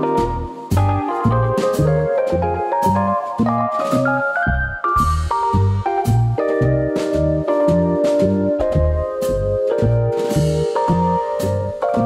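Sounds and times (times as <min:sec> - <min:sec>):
low bass thumps: 0:00.0 - 0:12.0
melodic background music: 0:00.0 - 0:12.0.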